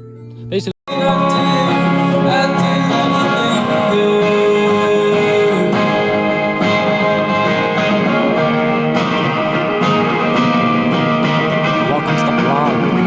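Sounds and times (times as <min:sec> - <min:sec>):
guitar music with sustained chords: 0:00.0 - 0:13.0.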